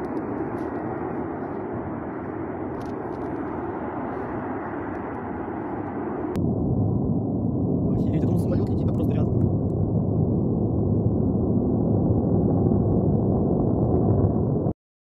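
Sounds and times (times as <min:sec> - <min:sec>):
gas burning with low rushing: 0:00.0 - 0:14.7.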